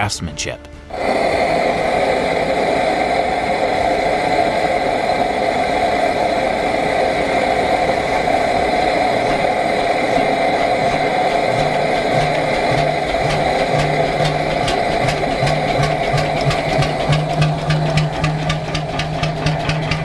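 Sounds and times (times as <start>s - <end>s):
diesel engine running: 0.9s - 20.0s.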